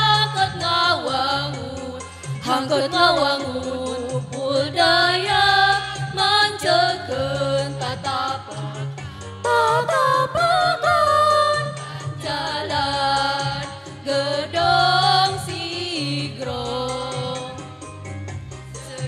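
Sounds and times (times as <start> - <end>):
women's choir singing: 0.0 - 8.9, 9.5 - 17.6.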